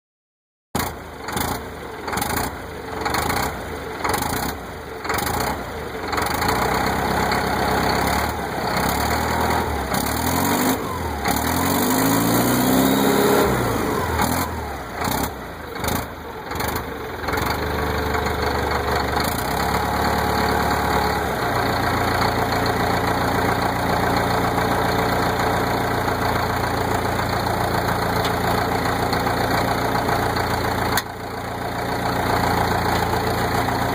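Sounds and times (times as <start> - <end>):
diesel engine cranking: 0.8 - 33.9
diesel engine revving and idling: 0.8 - 33.9.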